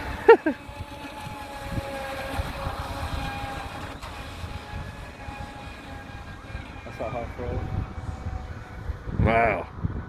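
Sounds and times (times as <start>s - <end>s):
model boat motor whining: 0.0s - 10.0s
wind on microphone: 0.0s - 10.0s.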